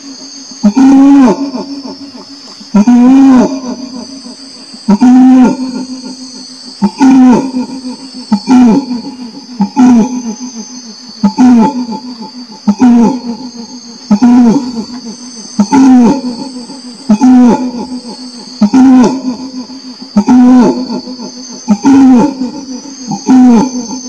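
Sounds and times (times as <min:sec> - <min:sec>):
insects buzzing: 0:00.0 - 0:24.0
orangutan hooting: 0:00.6 - 0:24.0.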